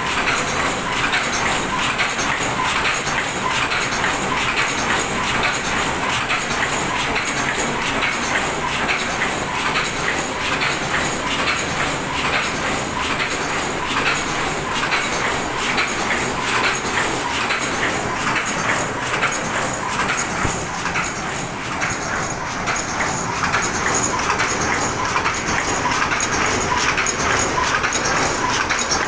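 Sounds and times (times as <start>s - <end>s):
machine clattering: 0.0s - 29.0s.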